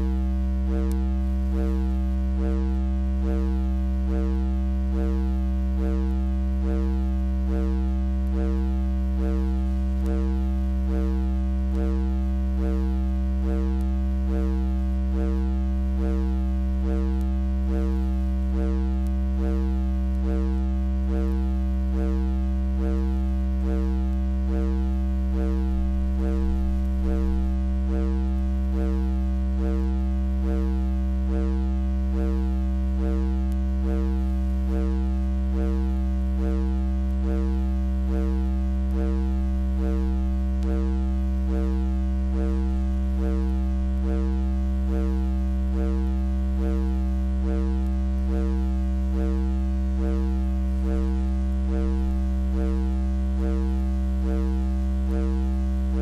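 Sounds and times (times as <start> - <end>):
deep humming drone tones: 0.0 - 56.0
pulsing mid-pitched tone: 0.0 - 56.0.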